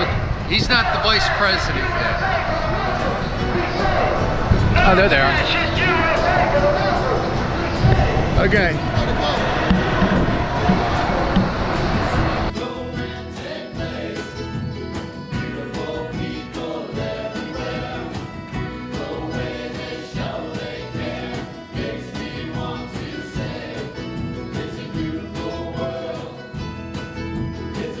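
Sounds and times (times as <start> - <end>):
choir singing over a beat: 2.2 - 4.9, 5.5 - 28.0.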